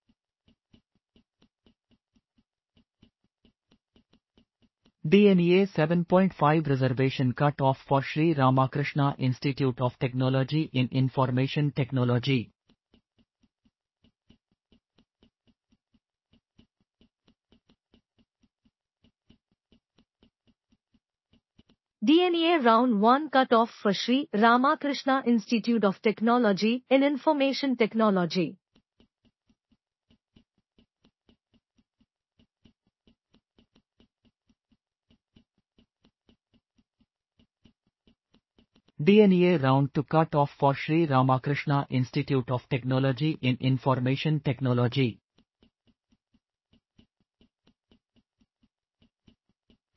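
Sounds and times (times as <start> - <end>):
faint fast ticking: 0.0 - 22.7, 28.7 - 49.9.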